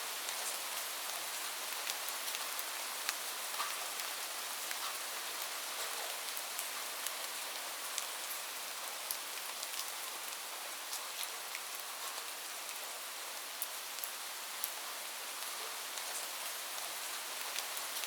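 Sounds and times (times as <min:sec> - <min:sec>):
steady rain hiss: 0:00.0 - 0:18.0
raindrops ticking on a surface: 0:00.2 - 0:12.8, 0:13.4 - 0:18.0.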